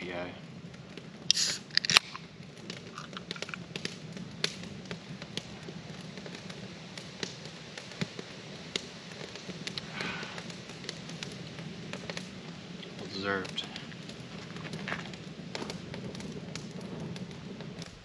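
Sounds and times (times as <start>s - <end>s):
campfire crackling: 0.0s - 18.0s
fire low hiss: 0.0s - 18.0s
fire pops and snaps: 0.0s - 18.0s.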